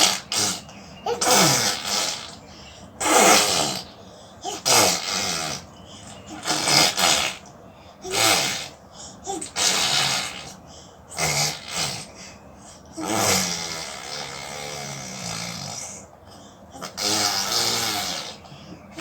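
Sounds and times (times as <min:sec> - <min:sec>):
baby imitating car engine: 0:00.0 - 0:19.0.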